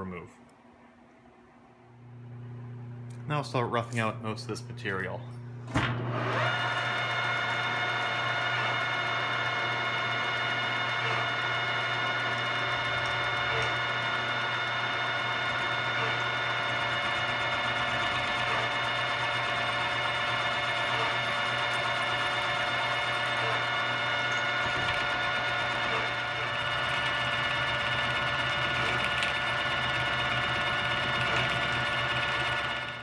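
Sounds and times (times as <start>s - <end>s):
milling machine whine: 2.0s - 33.0s
end mill cutting metal: 6.0s - 33.0s.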